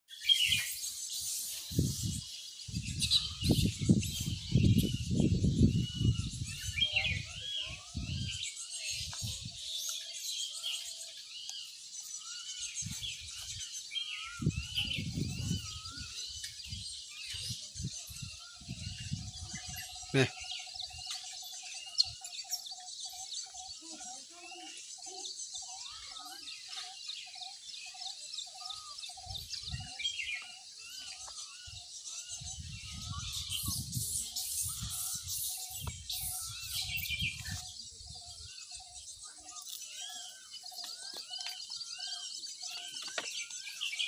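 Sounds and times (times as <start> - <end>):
birds chirping: 0.1 - 44.0.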